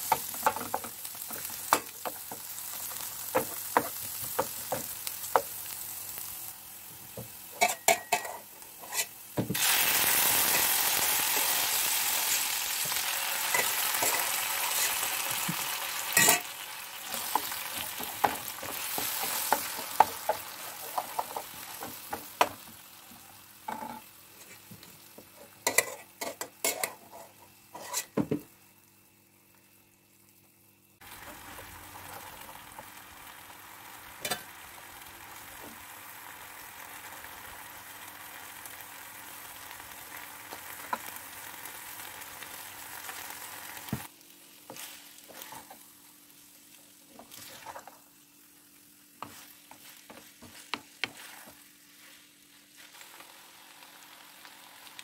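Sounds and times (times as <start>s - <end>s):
sauce sizzling and bubbling: 0.0s - 55.0s.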